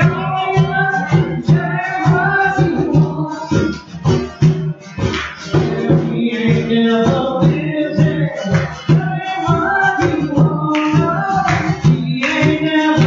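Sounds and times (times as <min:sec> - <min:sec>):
person singing: 0:00.0 - 0:03.9, 0:05.5 - 0:13.0
acoustic guitar: 0:00.0 - 0:13.0
conga drums beat: 0:00.0 - 0:13.0.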